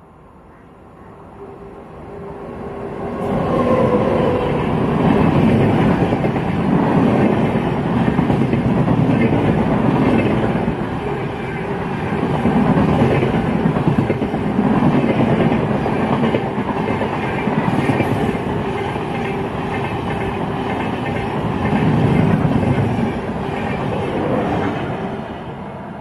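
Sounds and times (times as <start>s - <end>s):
train wheels rumbling clickety-clack: 3.2s - 25.1s.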